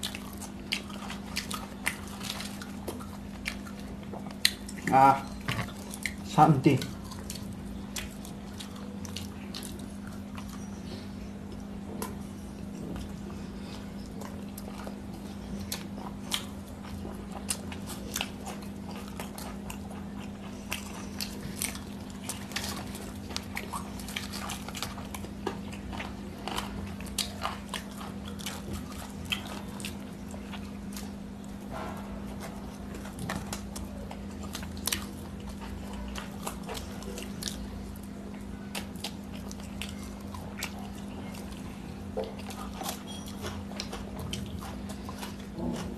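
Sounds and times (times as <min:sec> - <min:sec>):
people chewing: 0:00.0 - 0:45.9
steady low hum: 0:00.0 - 0:45.9.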